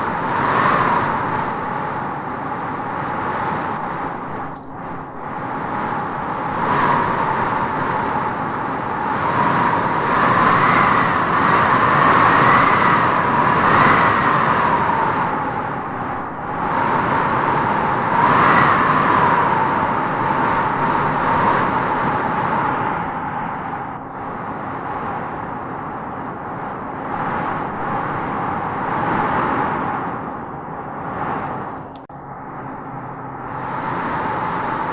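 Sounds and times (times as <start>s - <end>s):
wind howling in gusts: 0.0s - 34.9s.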